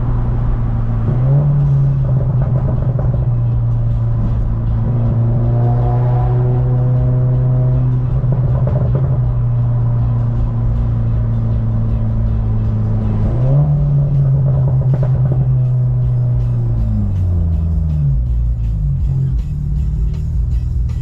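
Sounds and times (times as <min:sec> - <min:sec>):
background music: 0:00.0 - 0:21.0
vehicle engine running: 0:00.0 - 0:21.0.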